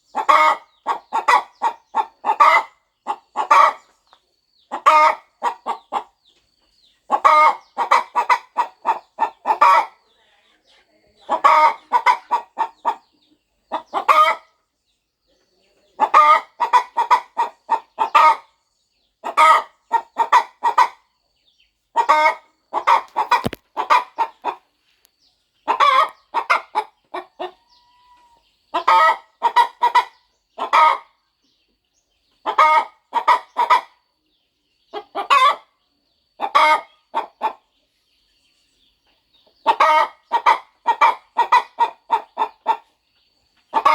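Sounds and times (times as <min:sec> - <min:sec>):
hen clucking: 0:00.0 - 0:34.2, 0:34.8 - 0:35.8, 0:36.4 - 0:37.9, 0:39.1 - 0:43.9.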